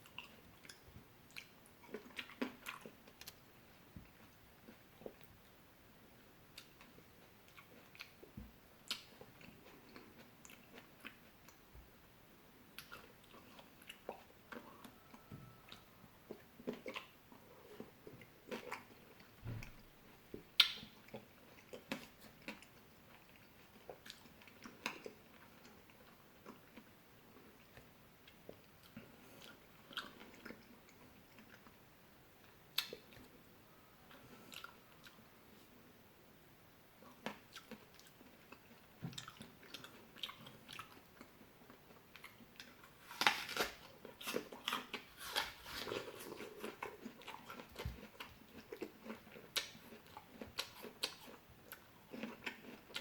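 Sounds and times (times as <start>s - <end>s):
person chewing fruit: 0.0s - 5.3s, 6.5s - 11.7s, 12.7s - 31.8s, 32.4s - 35.9s, 37.0s - 53.0s.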